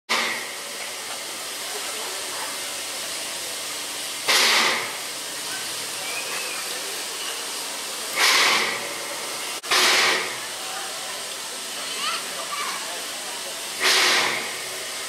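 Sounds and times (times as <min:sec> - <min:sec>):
steam locomotive hissing: 0:00.1 - 0:15.0
surge of steam: 0:00.1 - 0:15.0.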